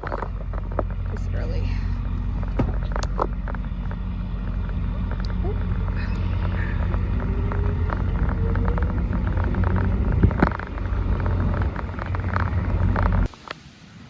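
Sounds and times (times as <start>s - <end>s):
bicycle rattles and clicks: 0.0s - 13.6s
bicycle tyres rumbling on rough path: 0.0s - 13.6s
wind: 0.0s - 14.0s.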